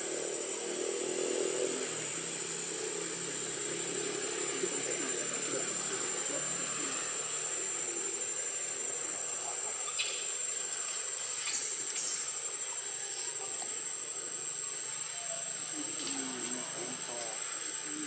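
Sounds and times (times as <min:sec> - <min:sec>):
background hiss: 0:00.0 - 0:18.0
insects droning: 0:00.0 - 0:18.0.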